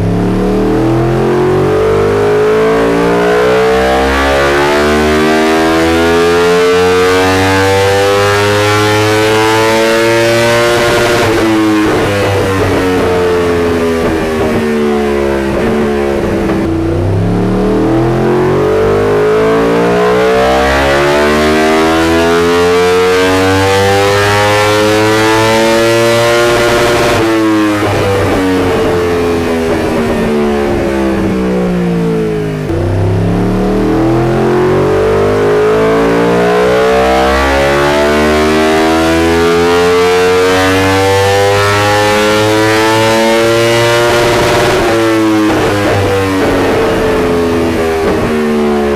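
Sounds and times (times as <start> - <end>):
motorcycle engine revving on a dyno: 0.0 - 48.9.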